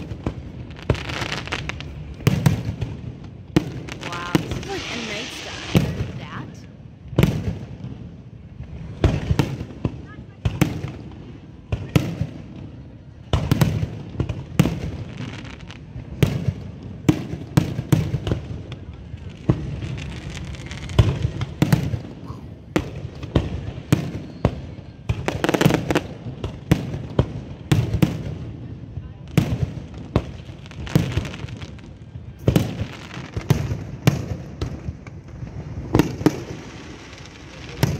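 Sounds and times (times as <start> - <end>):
fireworks bangs and booms: 0.0 - 37.9.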